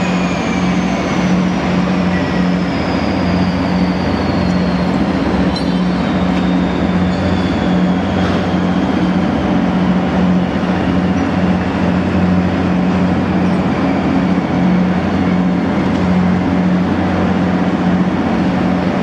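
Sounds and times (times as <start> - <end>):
boat machinery droning: 0.0 - 19.0.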